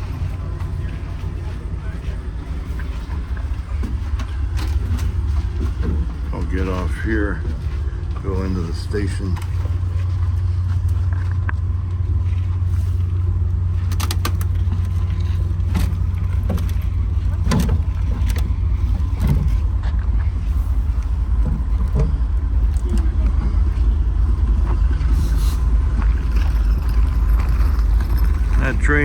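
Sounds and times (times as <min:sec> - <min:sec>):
diesel locomotive idling: 0:00.0 - 0:29.0.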